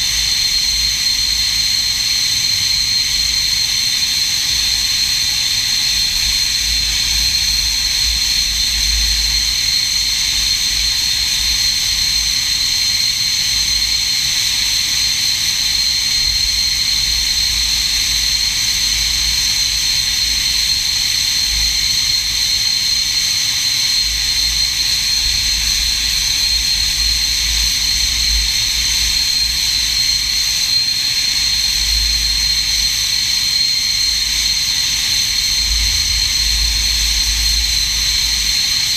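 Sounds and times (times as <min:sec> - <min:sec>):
jet engine idling whine: 0:00.0 - 0:38.9.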